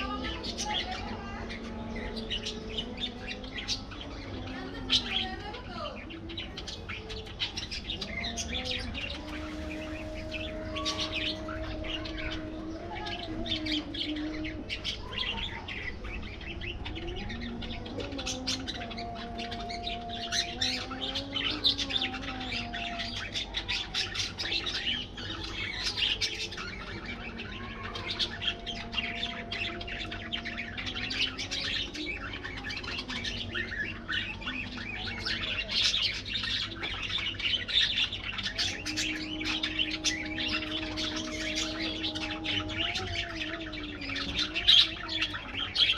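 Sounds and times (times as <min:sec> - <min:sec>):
budgerigars chirping and squawking: 0:00.0 - 0:45.9.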